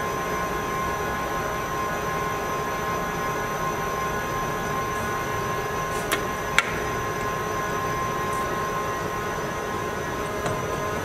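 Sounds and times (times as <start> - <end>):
lathe motor whine and hum: 0.0 - 11.0.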